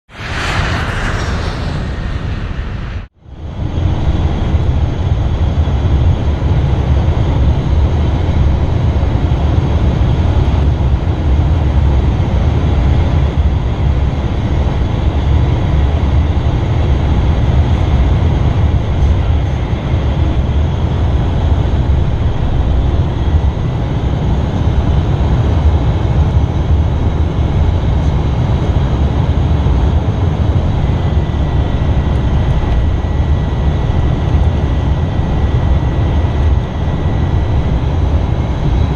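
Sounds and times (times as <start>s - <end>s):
jet engine and airflow rumble: 0.0s - 8.0s, 12.5s - 38.9s.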